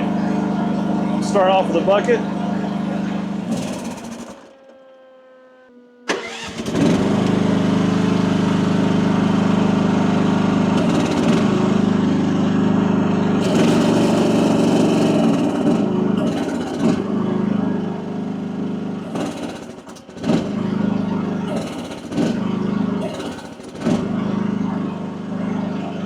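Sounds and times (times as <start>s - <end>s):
engine cranking and restarting: 0.0s - 5.1s, 6.0s - 26.0s
excavator engine stalling: 0.0s - 5.2s, 6.0s - 26.0s
excavator engine running: 0.0s - 26.0s.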